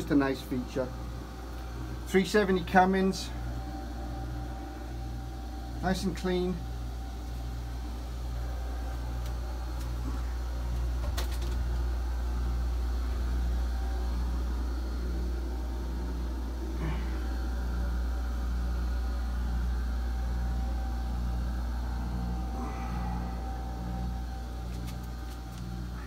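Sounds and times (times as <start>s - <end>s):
engine room machinery hum: 0.0s - 26.0s
faint steady whine: 0.0s - 26.0s.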